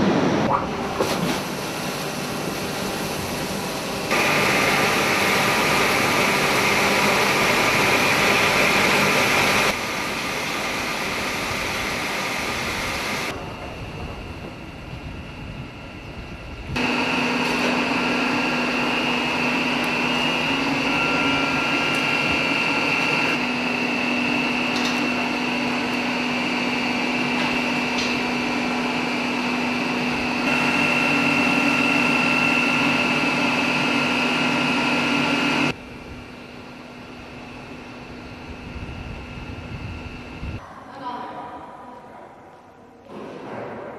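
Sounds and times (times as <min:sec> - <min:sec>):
boiler machinery humming and whining: 0:00.0 - 0:41.6.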